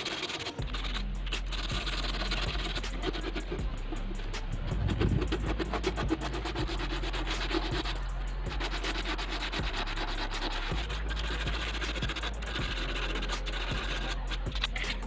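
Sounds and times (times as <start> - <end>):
rasping scrubbing of metal blade: 0.0 - 15.0.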